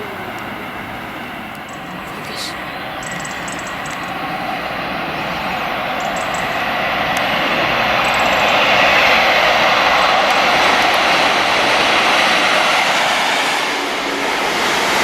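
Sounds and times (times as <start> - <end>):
train roaring: 0.0 - 15.0.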